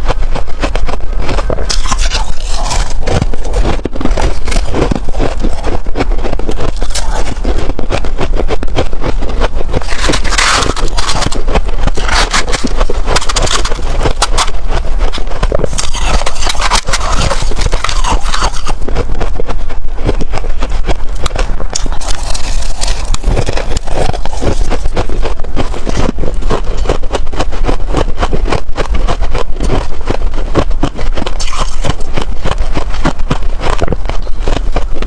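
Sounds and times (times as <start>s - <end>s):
crunching frost being eaten: 0.0s - 35.0s
low rumble: 0.0s - 35.0s.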